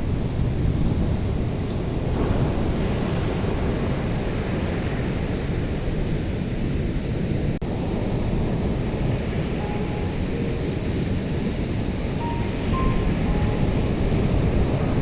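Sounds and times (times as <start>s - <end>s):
ocean waves breaking on beach: 0.1s - 15.0s.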